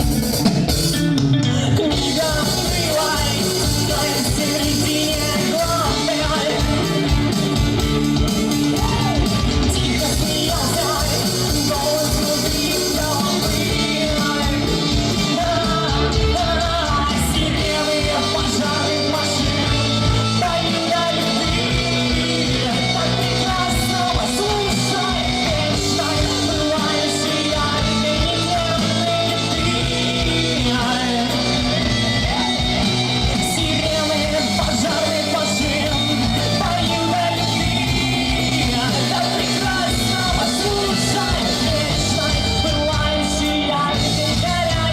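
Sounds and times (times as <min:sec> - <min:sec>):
live band playing: 0:00.0 - 0:44.9
person singing: 0:00.0 - 0:44.9
steady drum beat: 0:00.0 - 0:44.9.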